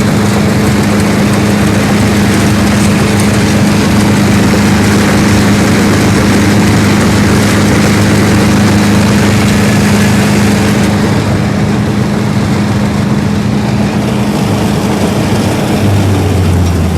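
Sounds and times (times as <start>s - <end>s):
combine harvester running: 0.0s - 16.9s.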